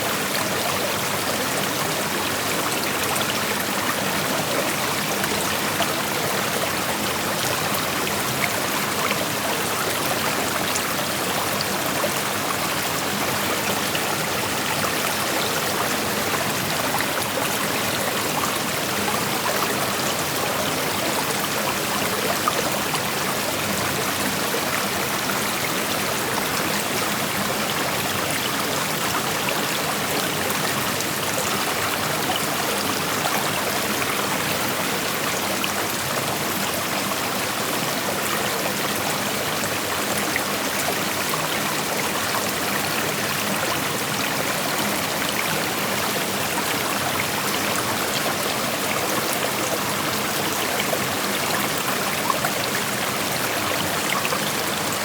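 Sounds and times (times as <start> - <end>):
creek flowing over rocks: 0.0 - 55.0.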